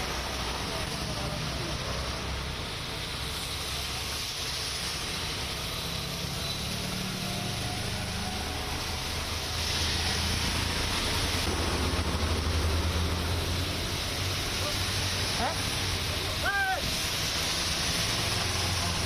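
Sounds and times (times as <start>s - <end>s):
rain and tyres hissing on wet road: 0.0s - 19.0s
vehicle engines humming: 0.0s - 19.0s.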